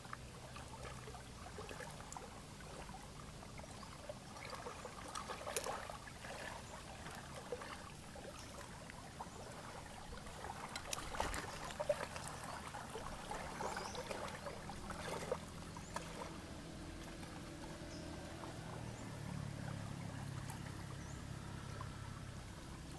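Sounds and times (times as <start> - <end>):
water lapping at shoreline: 0.0 - 22.9.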